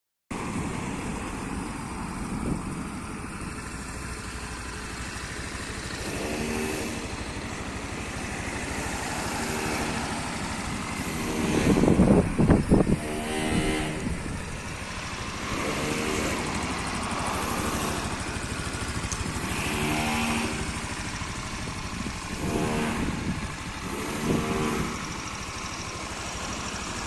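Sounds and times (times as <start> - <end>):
scooter engine running: 0.4 - 27.0.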